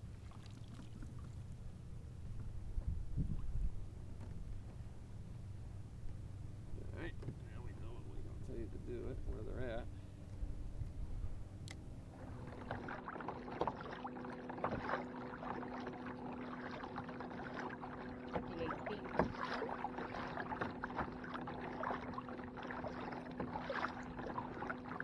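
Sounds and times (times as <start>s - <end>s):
steady low hum: 0.0s - 25.0s
water splashing against kayak hull: 0.0s - 25.0s.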